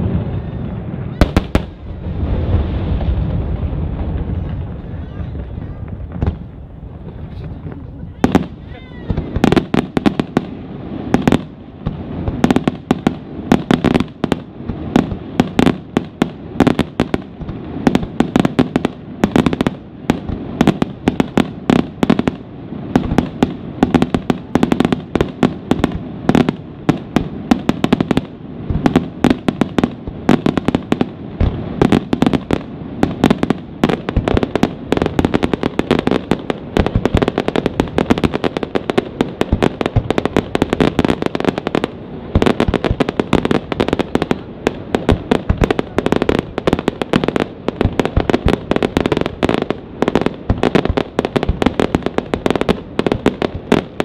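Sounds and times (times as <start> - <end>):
continuous rumble: 0.0 - 54.0.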